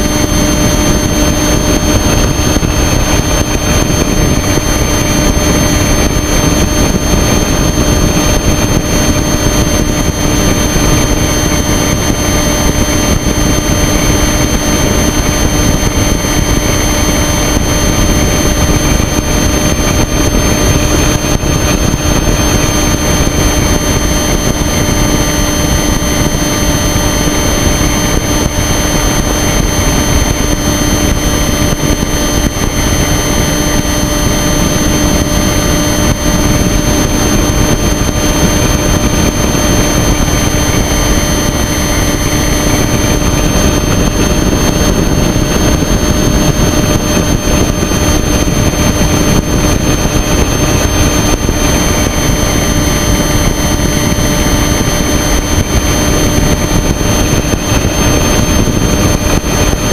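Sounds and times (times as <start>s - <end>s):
small aircraft engine and propeller: 0.0s - 59.9s
steady whine: 0.0s - 59.9s
wind rushing over microphone: 0.0s - 59.9s.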